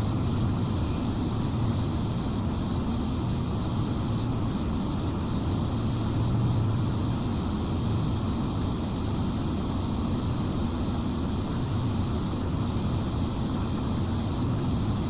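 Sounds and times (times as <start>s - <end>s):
cooling fans humming: 0.0s - 15.0s.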